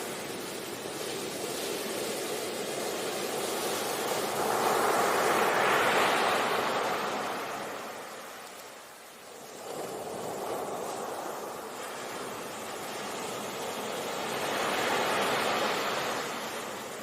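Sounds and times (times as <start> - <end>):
ocean surf on a beach: 0.0 - 17.0.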